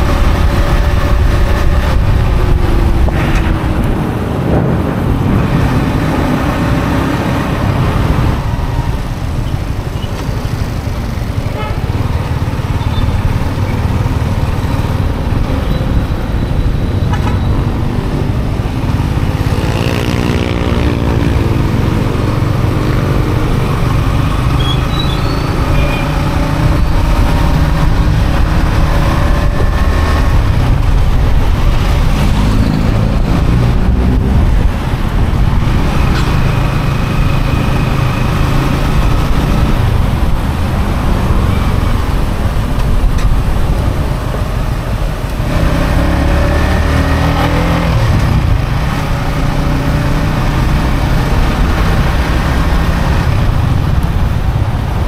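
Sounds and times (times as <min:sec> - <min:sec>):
motorcycle engine accelerating: 0:00.0 - 0:55.0
road and traffic noise: 0:00.0 - 0:55.0.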